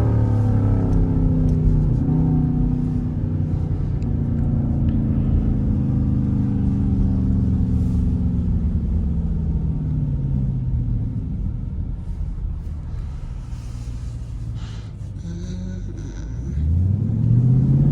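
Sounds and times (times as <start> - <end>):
exhaust rumbling: 0.0 - 17.9.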